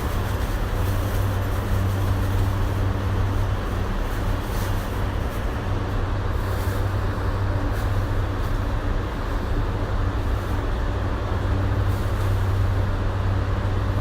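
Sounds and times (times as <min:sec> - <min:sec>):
train car low hum: 0:00.0 - 0:14.0.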